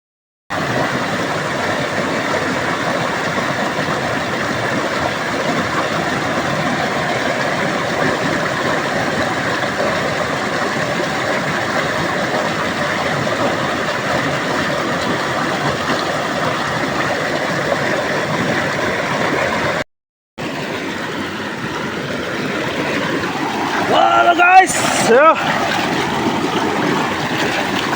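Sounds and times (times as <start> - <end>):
waterfall roaring: 0.6 - 17.2, 21.3 - 27.9.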